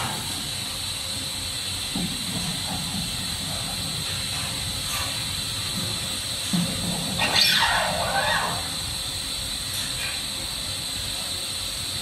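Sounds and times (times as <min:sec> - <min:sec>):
machine hiss with high whine: 0:00.0 - 0:12.0.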